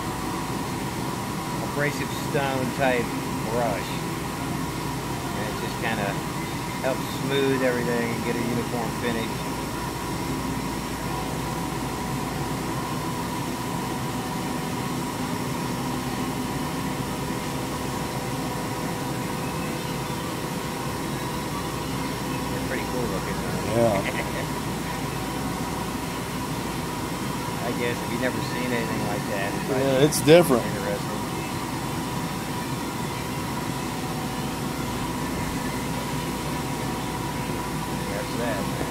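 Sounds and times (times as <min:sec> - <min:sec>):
coolant flowing: 0:00.0 - 0:38.9
machine humming and whining: 0:00.0 - 0:38.9.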